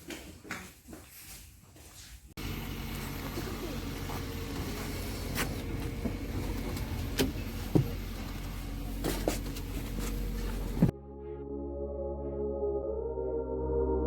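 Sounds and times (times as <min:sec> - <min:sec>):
low engine drone: 0:02.4 - 0:14.0.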